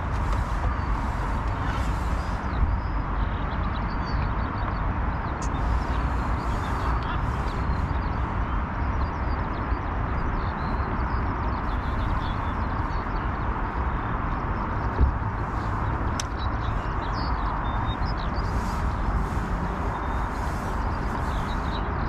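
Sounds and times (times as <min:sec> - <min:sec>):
birds calling: 0:00.0 - 0:03.6, 0:05.3 - 0:13.4, 0:14.8 - 0:22.0
wind rumbling on microphone: 0:00.0 - 0:22.0.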